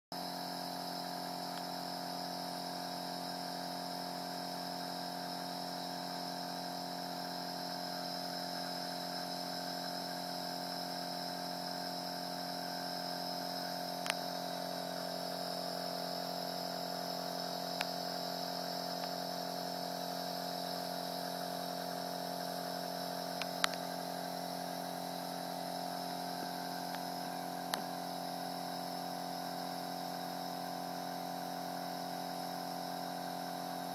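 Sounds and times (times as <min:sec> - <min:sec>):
nebulizer compressor humming: 0:00.2 - 0:33.9.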